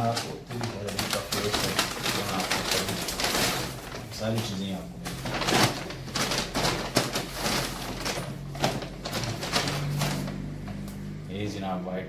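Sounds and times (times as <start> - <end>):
clothes and shopping bags rustling: 0.0 - 11.1.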